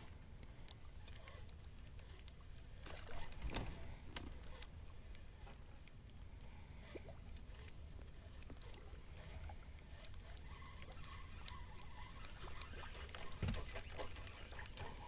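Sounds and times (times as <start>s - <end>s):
water lapping against hull: 0.0s - 15.0s
small clicks: 0.3s - 15.0s.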